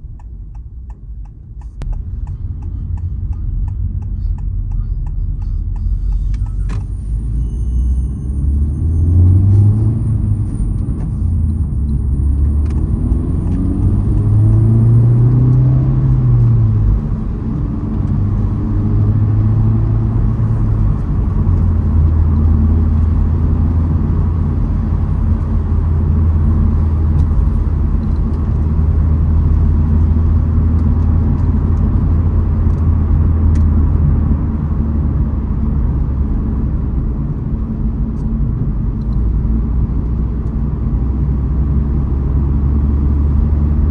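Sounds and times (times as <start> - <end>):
car engine drone: 0.0 - 43.9
road noise: 0.0 - 43.9.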